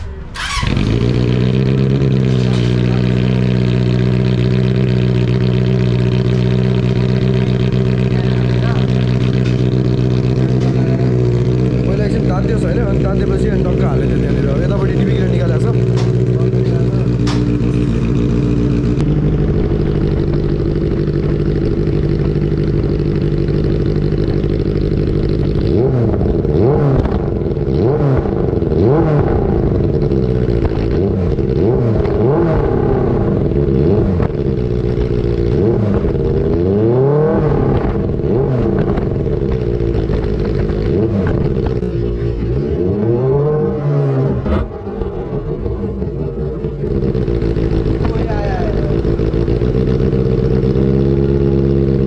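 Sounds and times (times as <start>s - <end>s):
motorcycle engine idling and revving: 0.0s - 52.0s.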